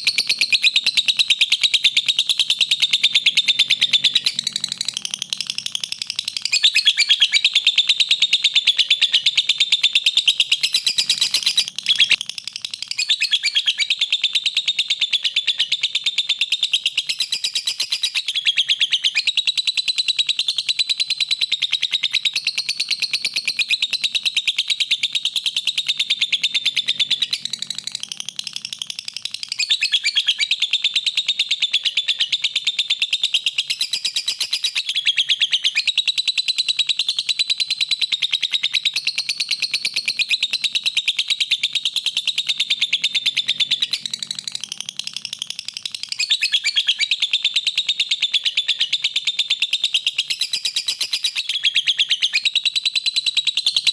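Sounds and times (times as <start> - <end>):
lovebird chattering: 0.0 - 36.1, 36.8 - 53.6.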